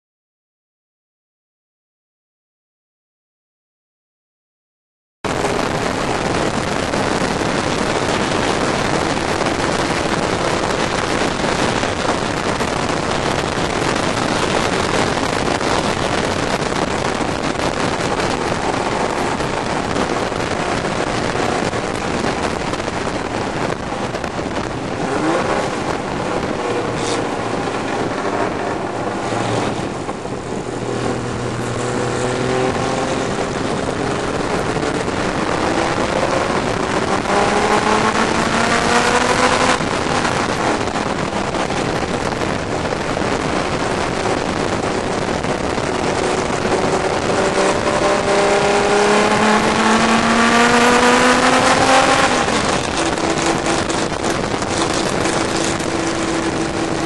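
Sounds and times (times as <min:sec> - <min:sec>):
racing car engine at high revs: 0:05.3 - 0:57.0
wind rush on microphone: 0:05.3 - 0:57.0.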